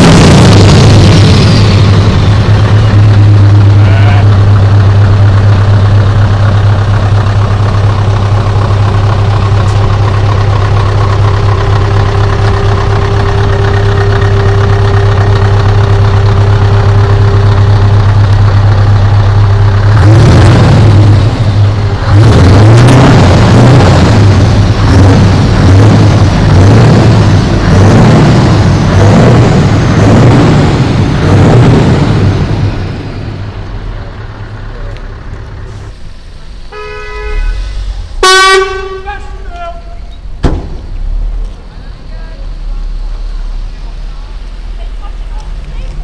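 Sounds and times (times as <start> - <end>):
truck diesel engine idling and revving: 0.0 - 46.0.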